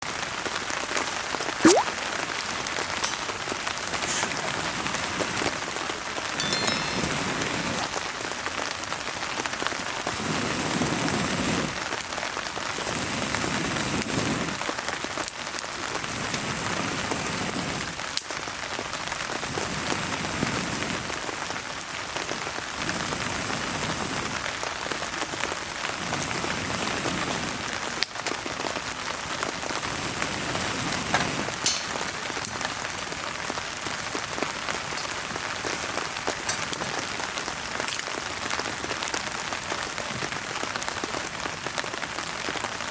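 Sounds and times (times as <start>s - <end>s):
steady rain falling: 0.0s - 42.9s
wood fire crackling: 0.2s - 42.9s.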